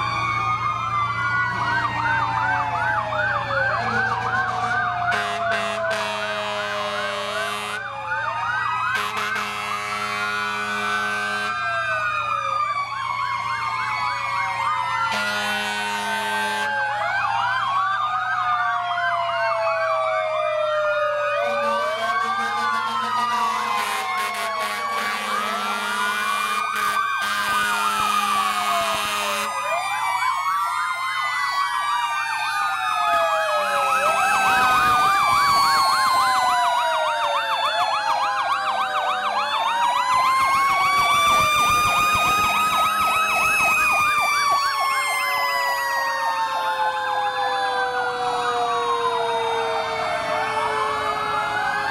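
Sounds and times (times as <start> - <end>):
fire truck sirens wailing: 0.0 - 51.9.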